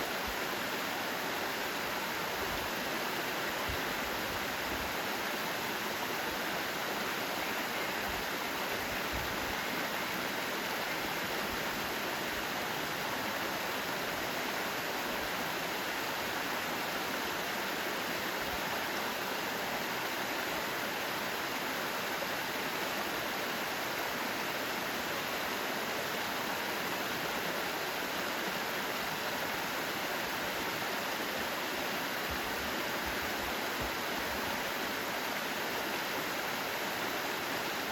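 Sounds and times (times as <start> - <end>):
stream water rushing: 0.0 - 37.9.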